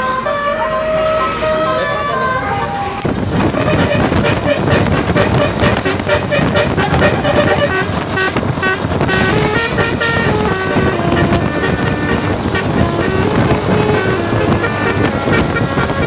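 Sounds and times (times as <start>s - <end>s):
bus horn playing a tune: 0.0s - 16.0s.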